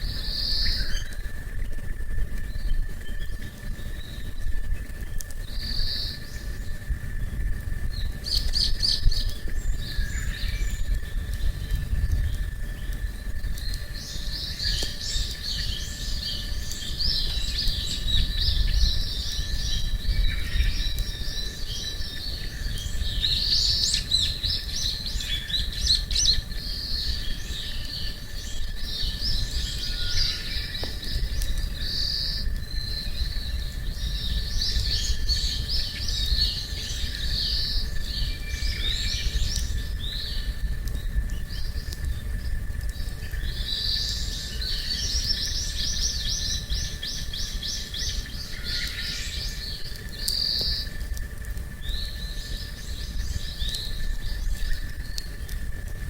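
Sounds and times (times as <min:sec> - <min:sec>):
low steady rumble: 0:00.0 - 0:56.0
small birds chirping: 0:00.0 - 0:56.0.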